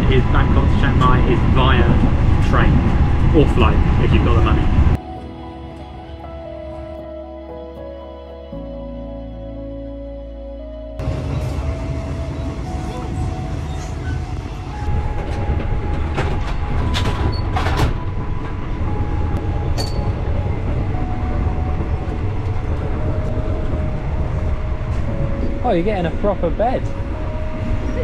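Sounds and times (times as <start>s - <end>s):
train rumbling from inside: 0.0s - 6.9s, 11.0s - 28.0s.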